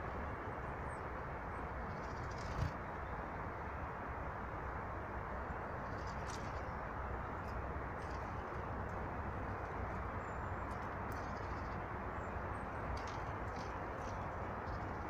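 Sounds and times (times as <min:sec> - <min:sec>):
outdoor rushing background noise: 0:00.0 - 0:15.0.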